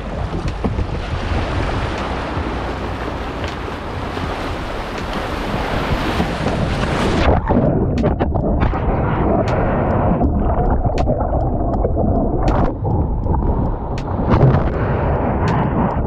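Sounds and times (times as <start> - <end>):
water washing against kayak: 0.0 - 16.0
wind rumble on microphone: 0.0 - 16.0.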